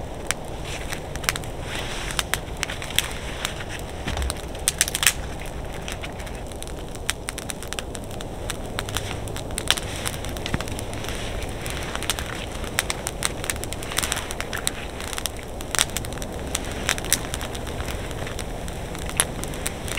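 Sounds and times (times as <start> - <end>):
campfire crackling: 0.0 - 19.9.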